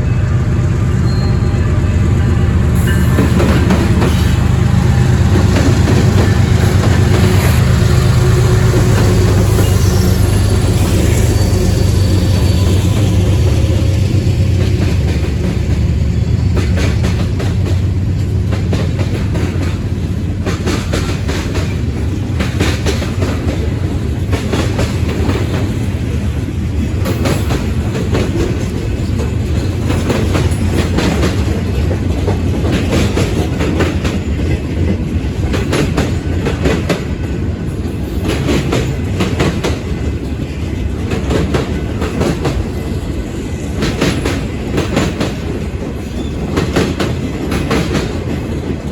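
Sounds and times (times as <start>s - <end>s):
diesel locomotive hum: 0.0s - 48.9s
train rumble: 0.0s - 48.9s
train wheels clickety-clack: 0.8s - 48.9s.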